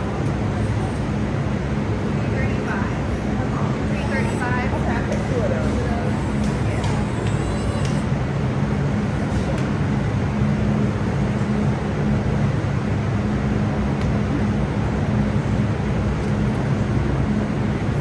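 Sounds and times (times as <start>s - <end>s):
loud mechanical drone: 0.0s - 18.0s.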